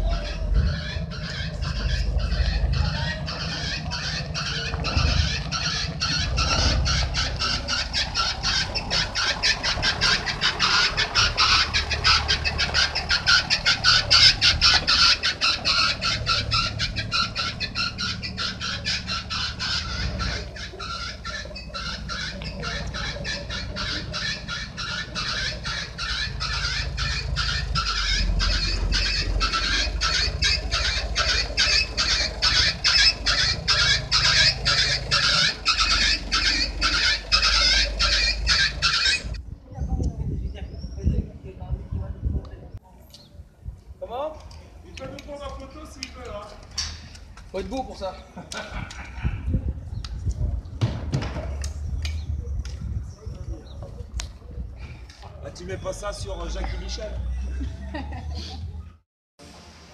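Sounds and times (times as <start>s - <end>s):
diesel bus engine rumbling: 0.0s - 59.9s.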